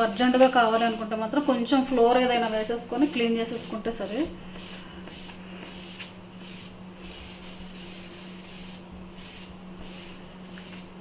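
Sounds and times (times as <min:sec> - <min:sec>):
steady low hum: 0:00.0 - 0:11.0
tissue swishing on paper: 0:00.1 - 0:10.9.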